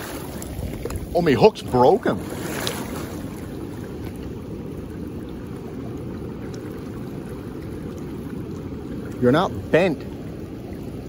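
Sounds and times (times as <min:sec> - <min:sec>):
wind on microphone: 0:00.0 - 0:09.2
river flowing: 0:00.0 - 0:11.0.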